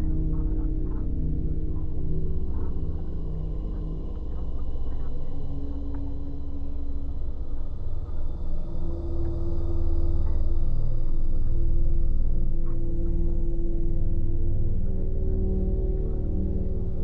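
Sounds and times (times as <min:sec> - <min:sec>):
dark ambient drone music: 0:00.0 - 0:17.0.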